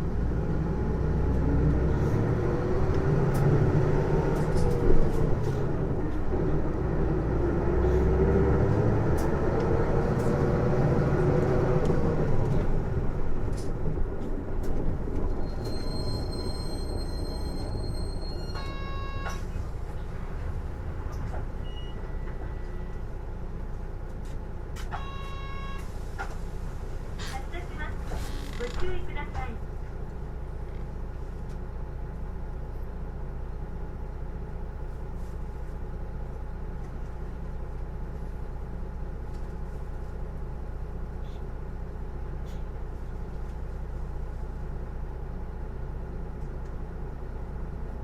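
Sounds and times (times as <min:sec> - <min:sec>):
bus drivetrain whine: 0:00.0 - 0:48.0
low engine rumble: 0:00.0 - 0:48.0.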